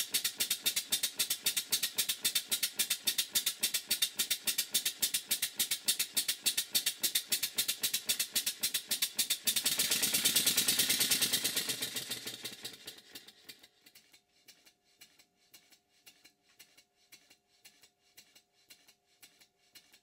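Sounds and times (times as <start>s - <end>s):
model steam engine exhaust beats: 0.0s - 20.0s.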